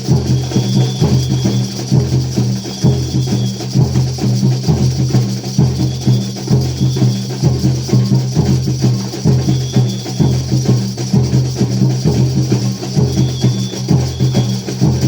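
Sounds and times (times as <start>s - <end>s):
drums: 0.0s - 15.0s
jingling percussion: 0.0s - 15.0s.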